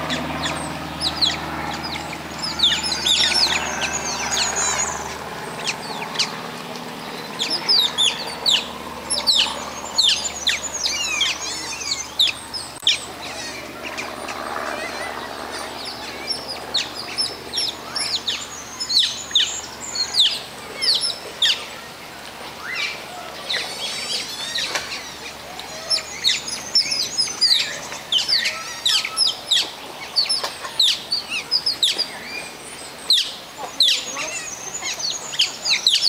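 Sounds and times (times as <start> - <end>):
otters chirping: 0.0 - 21.8, 22.7 - 36.0.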